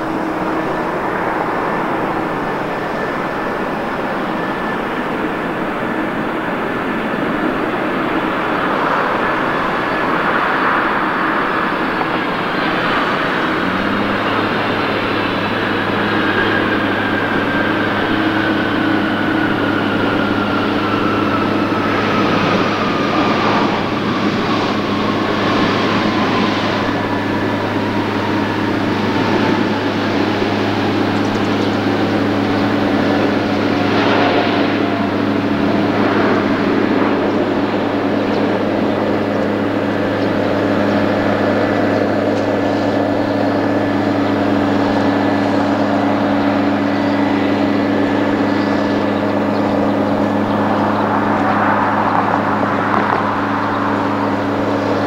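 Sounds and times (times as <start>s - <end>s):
jet engines spooling down: 0.0s - 55.0s
steady low hum: 0.0s - 55.0s.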